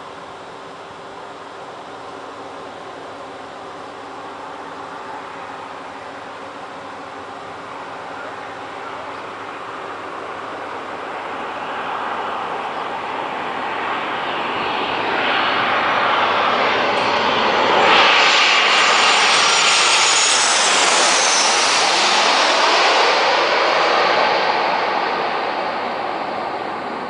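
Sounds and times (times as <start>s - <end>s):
jet engines passing by: 0.0s - 27.0s.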